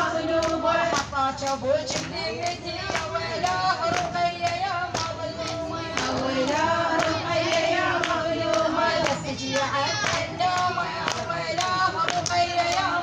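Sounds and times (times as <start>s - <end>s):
voices chanting a lament: 0.0s - 13.0s.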